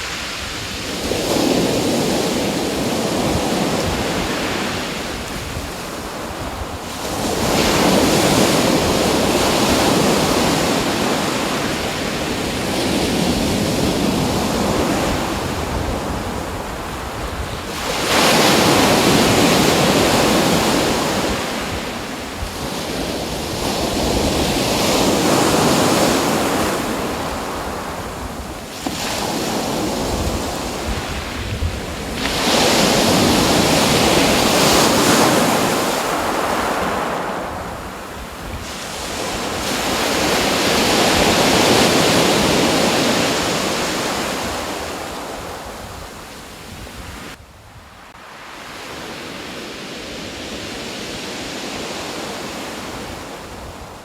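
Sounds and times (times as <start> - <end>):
ocean waves breaking: 0.0 - 47.4.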